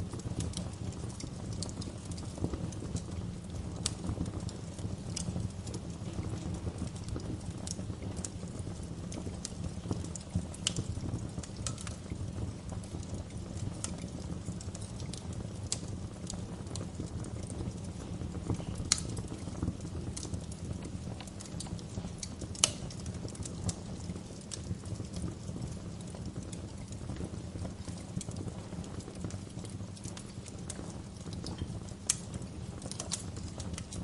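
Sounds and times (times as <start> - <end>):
fire pops and snaps: 0.0 - 34.0
wood fire crackling: 0.0 - 34.0.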